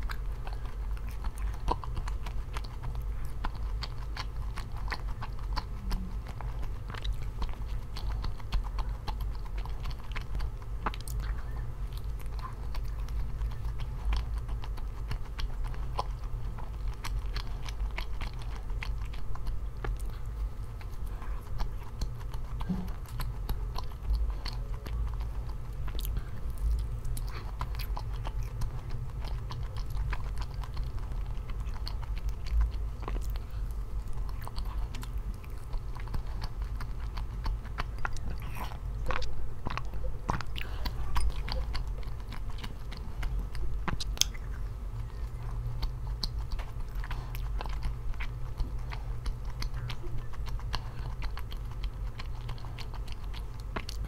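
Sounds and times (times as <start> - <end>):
low hum: 0.0 - 54.0
person chewing food: 0.0 - 54.0.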